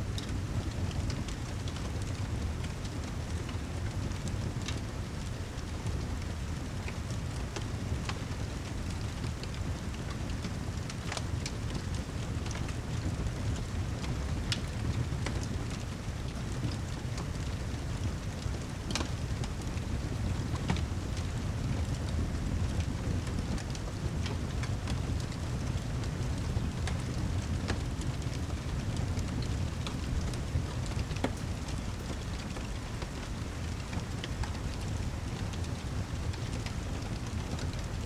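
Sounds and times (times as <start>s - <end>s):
heavy rain: 0.1s - 38.0s
wood fire crackling: 0.1s - 38.0s.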